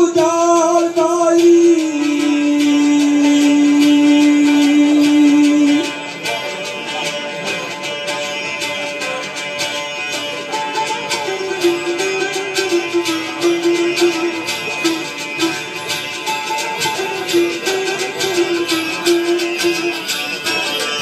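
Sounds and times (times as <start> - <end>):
fast percussion strokes: 0.0 - 21.0
plucked string melody: 0.0 - 21.0.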